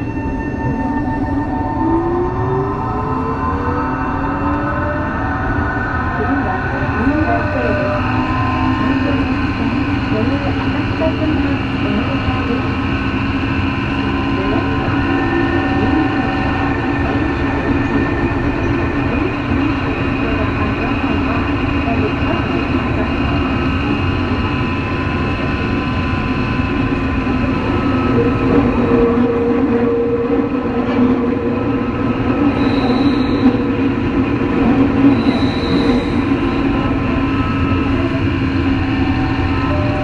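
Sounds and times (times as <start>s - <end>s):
subway car rail noise: 0.0s - 40.0s.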